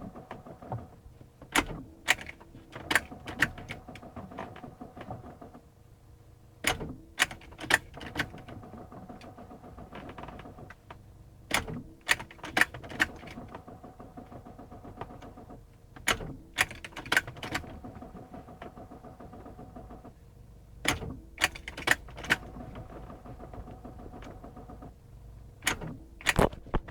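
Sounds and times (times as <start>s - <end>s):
car starter clicking: 0.0s - 5.6s, 6.6s - 10.9s, 11.5s - 20.2s, 20.8s - 25.0s, 25.6s - 26.9s.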